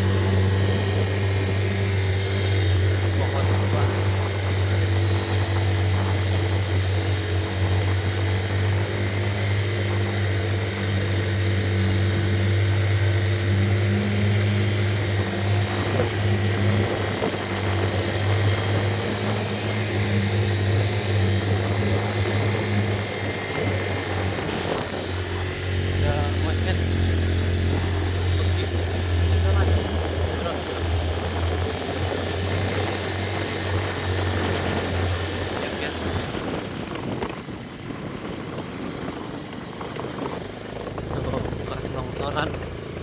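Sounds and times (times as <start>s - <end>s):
small engine droning: 0.0s - 43.0s.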